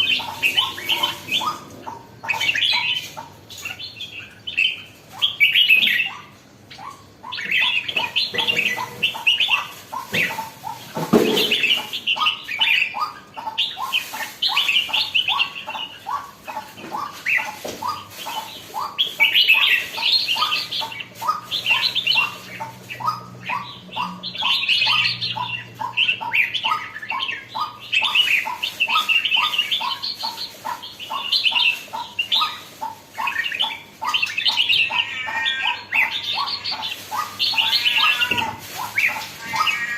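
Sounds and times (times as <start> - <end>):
bird singing warbling phrases: 0.0 - 39.9.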